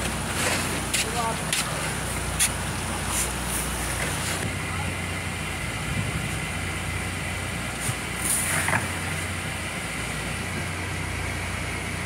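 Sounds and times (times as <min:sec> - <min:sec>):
idling engine hum: 0:00.0 - 0:12.0.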